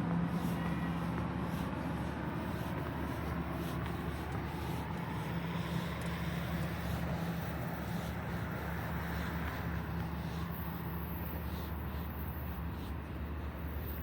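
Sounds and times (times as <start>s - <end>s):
train humming and rumbling: 0.0s - 14.0s.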